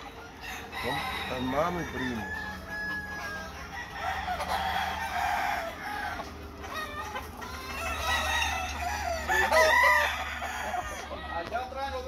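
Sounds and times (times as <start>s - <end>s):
roosters clucking: 0.0s - 12.0s
roosters crowing: 0.0s - 12.0s.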